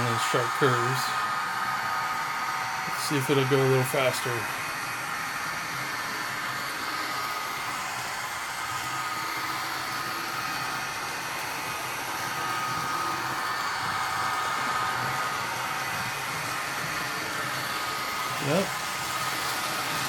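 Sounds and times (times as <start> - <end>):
hissy hum: 0.0 - 19.9
model train diesel engine sound: 0.0 - 20.0.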